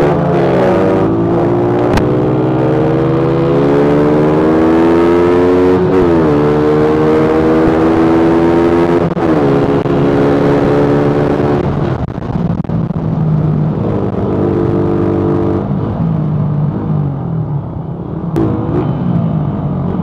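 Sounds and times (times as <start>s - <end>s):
motorcycle engine shifting gears: 0.0s - 17.0s.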